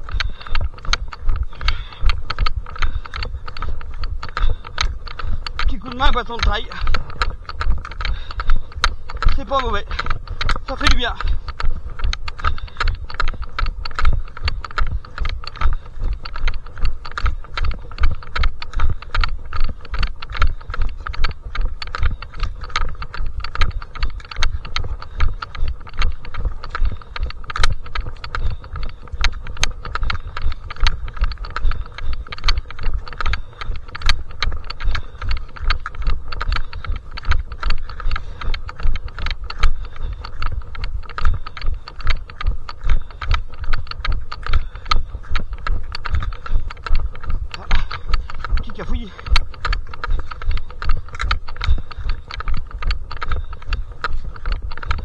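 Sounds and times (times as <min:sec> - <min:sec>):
trail poles clicking on ground: 0:00.0 - 0:55.0.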